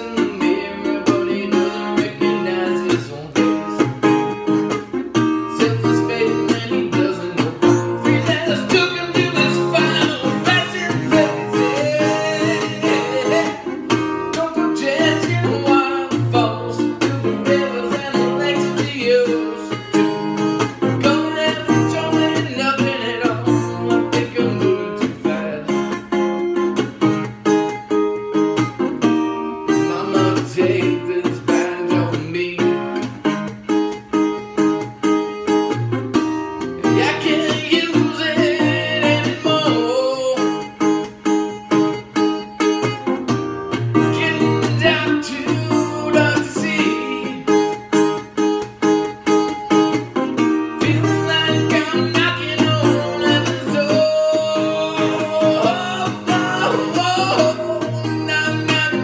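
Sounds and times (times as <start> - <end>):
man singing: 0.0 - 26.3, 29.4 - 33.4, 36.6 - 41.2, 43.7 - 48.3, 50.0 - 59.0
resonator guitar strummed: 0.0 - 59.0.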